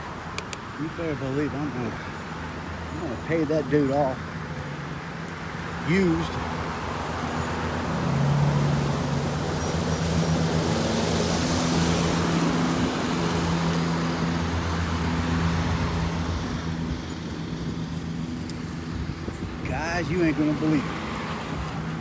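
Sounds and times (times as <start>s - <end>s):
road noise: 0.0s - 22.0s
vehicle engine humming: 0.0s - 22.0s.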